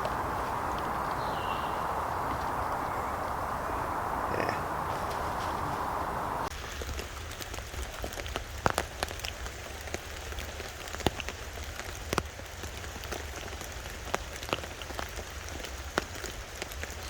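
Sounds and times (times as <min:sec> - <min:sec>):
heavy rain drumming on tarp: 0:00.0 - 0:17.0.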